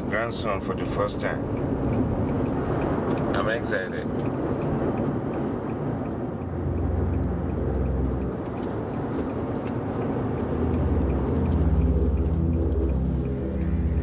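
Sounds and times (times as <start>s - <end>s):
deep hum: 0.0s - 14.0s
vehicle interior rumble: 0.0s - 14.0s.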